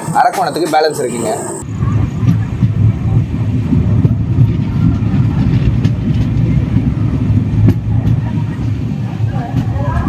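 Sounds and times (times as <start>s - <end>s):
train coach rumbling on track: 0.0s - 10.0s.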